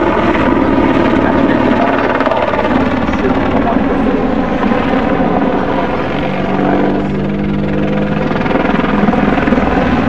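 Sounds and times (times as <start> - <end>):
helicopter rotors and engines: 0.0 - 10.0.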